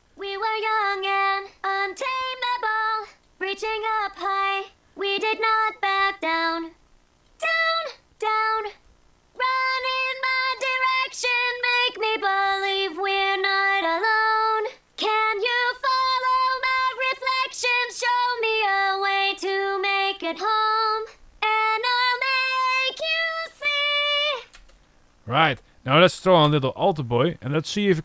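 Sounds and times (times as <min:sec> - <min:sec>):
synthetic female voice singing: 0:00.2 - 0:06.8, 0:07.4 - 0:08.8, 0:09.4 - 0:24.6.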